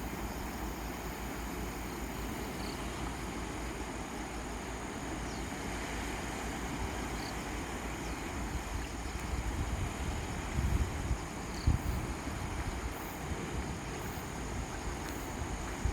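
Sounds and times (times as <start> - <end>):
sea waves breaking: 0.0 - 15.9.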